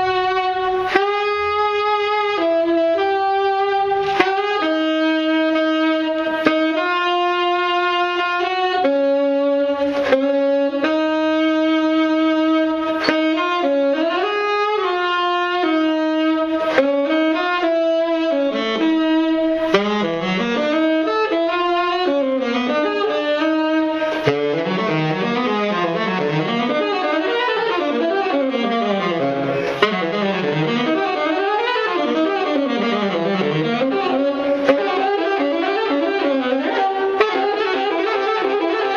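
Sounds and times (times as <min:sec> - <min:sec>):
solo saxophone improvising: 0:00.0 - 0:38.9.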